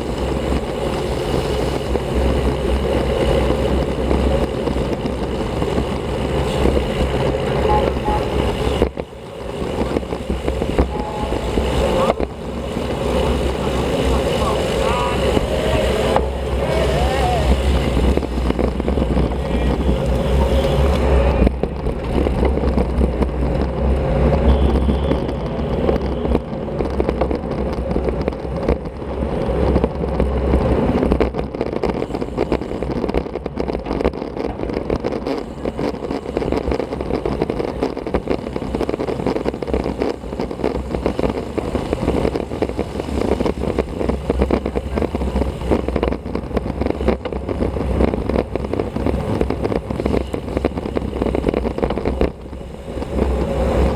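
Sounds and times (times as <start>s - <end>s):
road rumble: 0.0s - 53.9s
wind buffeting microphone: 0.0s - 53.9s.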